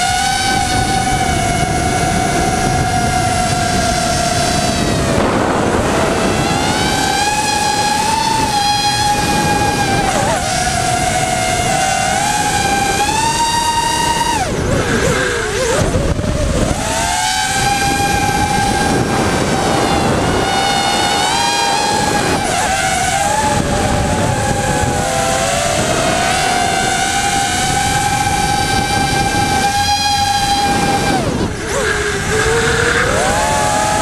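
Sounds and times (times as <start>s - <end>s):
drone motors whining: 0.0s - 34.0s
wind rushing over camera: 0.0s - 34.0s.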